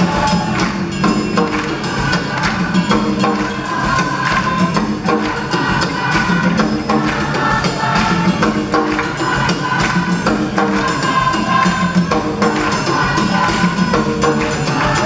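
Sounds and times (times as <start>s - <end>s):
large choir singing: 0.0s - 15.0s
sharp percussive beat: 0.0s - 15.0s.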